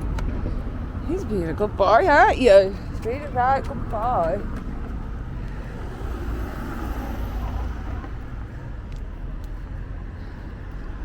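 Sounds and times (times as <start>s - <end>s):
car passing: 0.0s - 11.0s
low traffic rumble: 0.0s - 11.0s.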